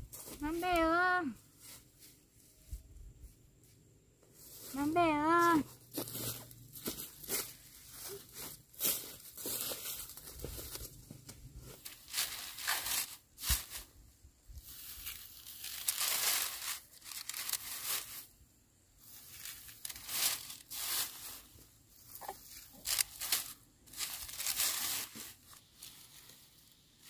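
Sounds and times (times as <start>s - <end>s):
dry plant material rustling: 4.4s - 27.0s.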